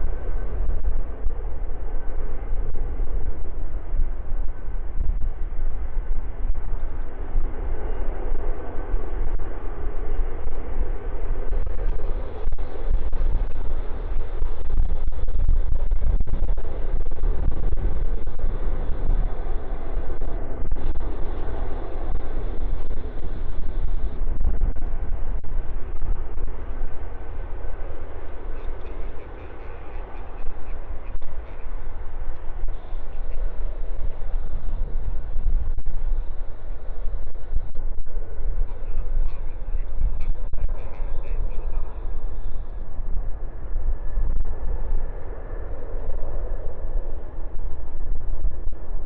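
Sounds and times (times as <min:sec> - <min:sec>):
jet engines rumbling: 0:00.0 - 0:49.0
wind buffeting microphone: 0:00.0 - 0:49.0.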